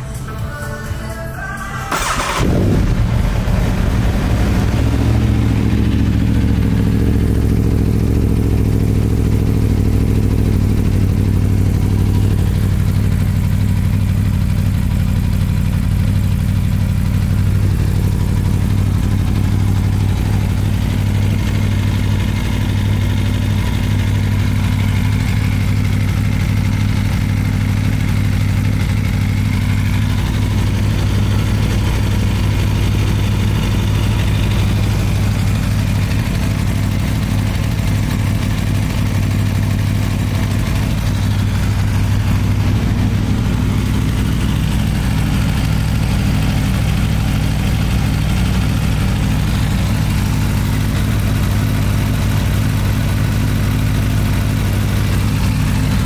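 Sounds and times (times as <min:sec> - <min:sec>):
motorcycle engine idling: 0:02.0 - 0:56.0.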